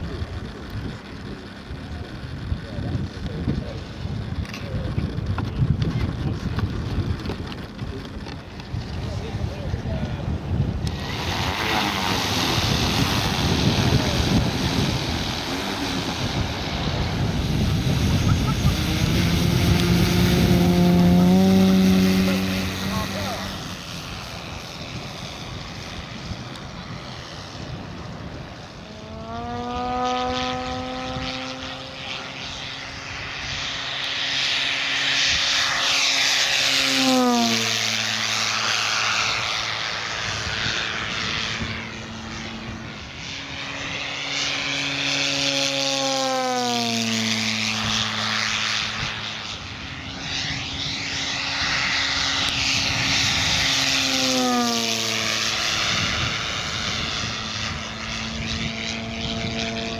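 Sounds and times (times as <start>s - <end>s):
propeller drone of model plane: 0.0s - 59.9s.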